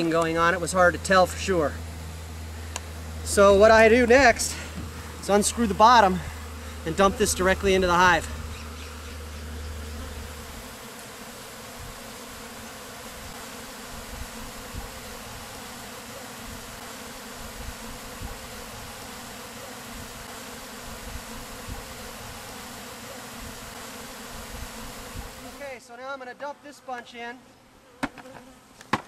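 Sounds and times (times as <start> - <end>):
bees buzzing: 0.0 - 25.8.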